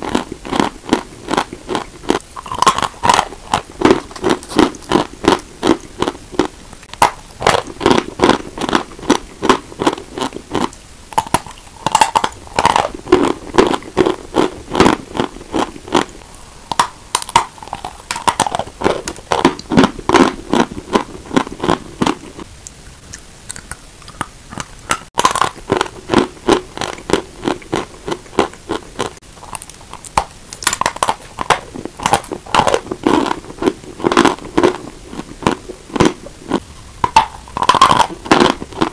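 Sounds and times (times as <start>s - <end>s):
chalk being chewed: 0.0s - 24.7s, 25.3s - 38.9s.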